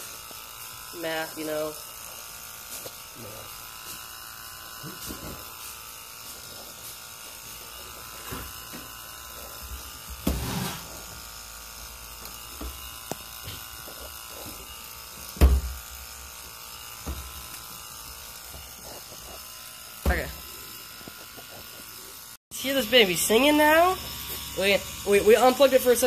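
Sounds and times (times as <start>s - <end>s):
electric fuel pump humming: 0.0s - 26.0s.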